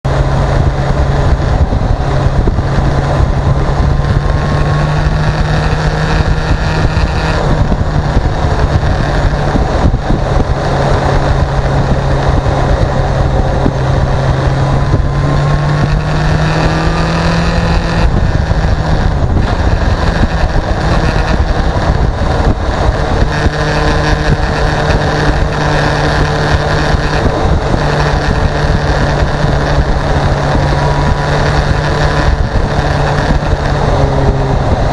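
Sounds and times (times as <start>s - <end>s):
motorcycle engine running: 0.0s - 34.9s
wind on microphone: 0.1s - 34.9s.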